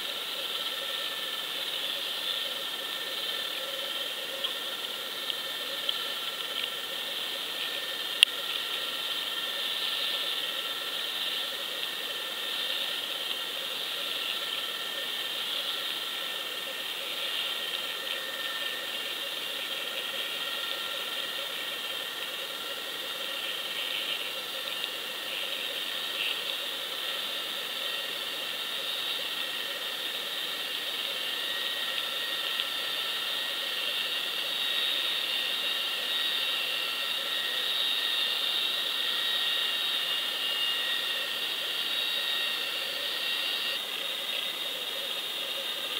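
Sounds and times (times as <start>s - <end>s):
high-pitched whine: 0.0s - 45.9s.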